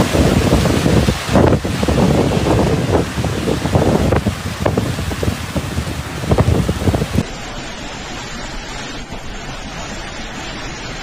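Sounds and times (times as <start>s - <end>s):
heavy rain: 0.0s - 11.0s
storm wind gusting on microphone: 0.0s - 11.0s.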